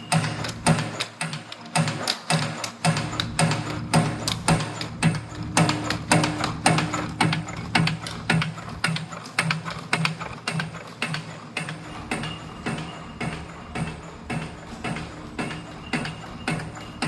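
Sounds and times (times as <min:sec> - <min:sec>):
spring machine clacking: 0:00.0 - 0:17.0
steady motor hum: 0:00.0 - 0:17.0.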